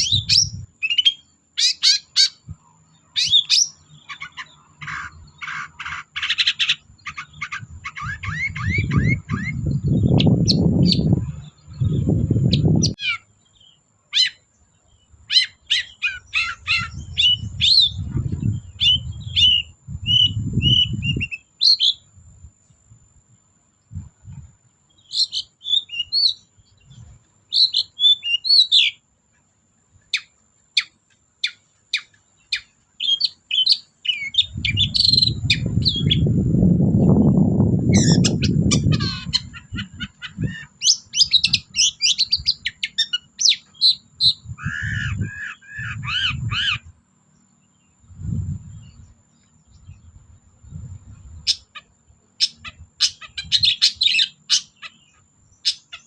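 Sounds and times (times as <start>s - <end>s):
bird singing chips and trills: 0.0s - 22.9s, 23.7s - 56.0s.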